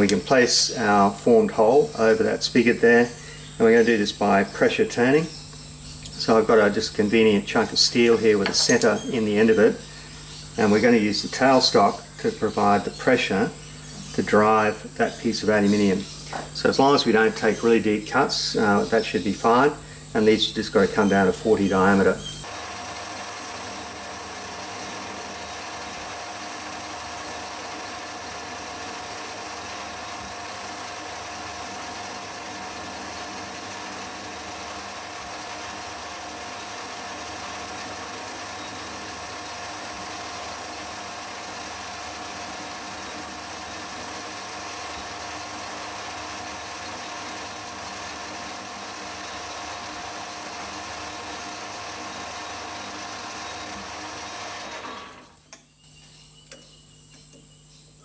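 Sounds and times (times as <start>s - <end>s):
metal lathe whining: 0.0s - 55.6s.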